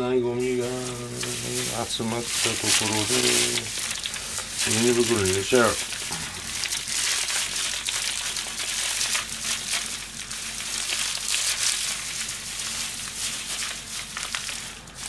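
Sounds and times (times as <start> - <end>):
plastic bags crinkling: 0.4 - 15.0.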